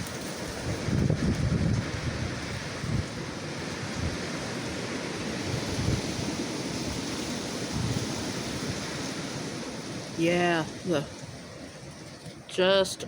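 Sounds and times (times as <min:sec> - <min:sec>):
strong gusty wind: 0:00.0 - 0:13.0
wind buffeting microphone: 0:00.0 - 0:13.0.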